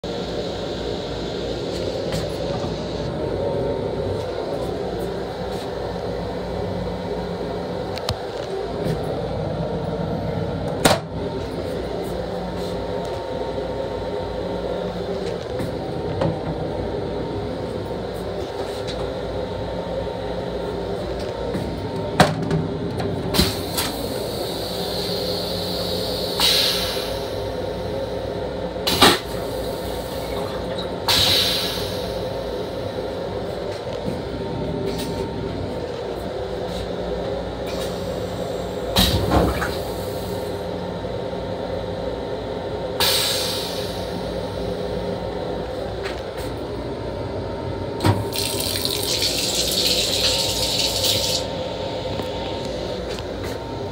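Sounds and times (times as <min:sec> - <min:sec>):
steady hum of railcar: 0:00.0 - 0:53.9.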